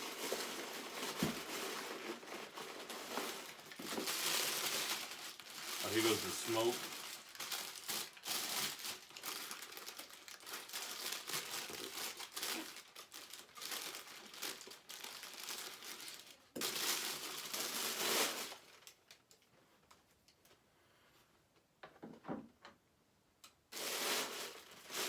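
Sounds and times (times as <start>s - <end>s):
packaging crinkling: 0.0s - 19.1s, 23.8s - 25.0s.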